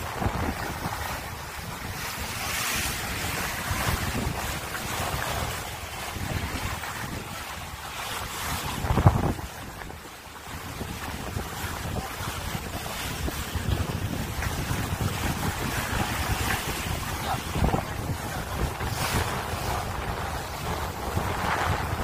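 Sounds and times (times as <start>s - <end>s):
choppy sea along hull: 0.0s - 22.0s
wind buffeting microphone: 0.0s - 22.0s.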